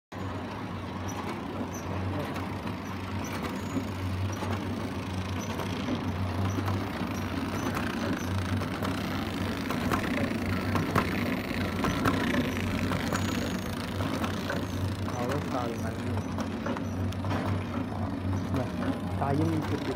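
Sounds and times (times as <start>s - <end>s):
machine motor hum: 0.2s - 19.9s.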